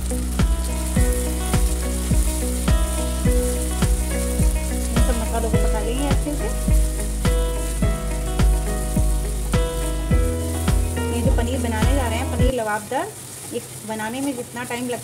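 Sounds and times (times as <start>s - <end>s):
background music with steady beat: 0.0s - 12.5s
food sizzling in oil: 0.0s - 15.0s.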